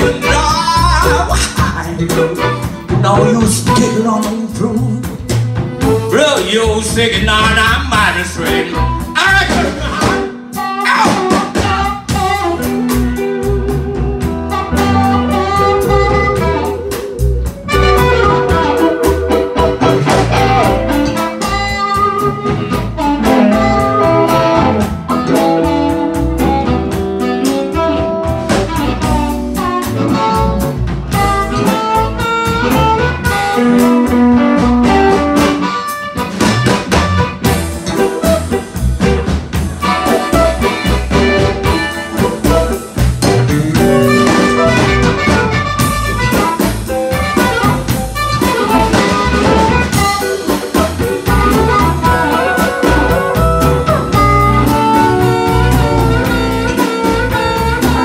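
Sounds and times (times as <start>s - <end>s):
live blues band playing: 0.0s - 58.0s
harmonica long held notes: 7.9s - 58.0s.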